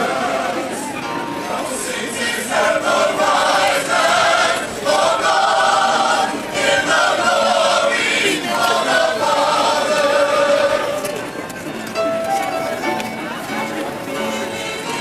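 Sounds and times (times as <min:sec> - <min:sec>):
voices singing together: 0:00.0 - 0:11.3, 0:14.1 - 0:15.0.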